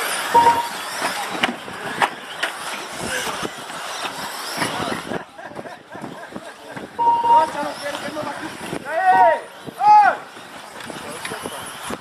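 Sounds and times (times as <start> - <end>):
model car motors and tyres: 0.0 - 12.0.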